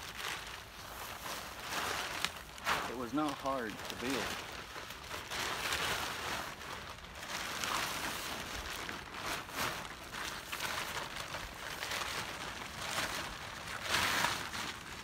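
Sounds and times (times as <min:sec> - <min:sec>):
plastic tarp crinkling: 0:00.0 - 0:15.0.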